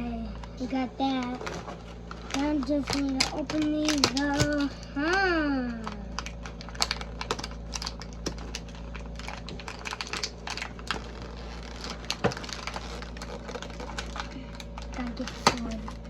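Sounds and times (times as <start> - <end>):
plastic packaging crinkling: 0.4 - 16.0
plastic snaps: 1.2 - 16.0.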